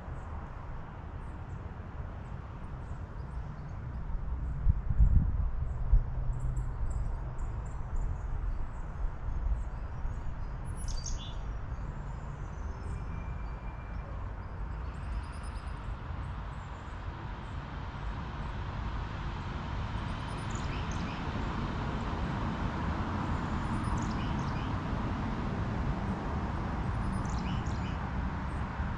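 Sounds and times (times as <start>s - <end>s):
wind rumbling on microphone: 0.0s - 15.0s, 15.6s - 28.9s.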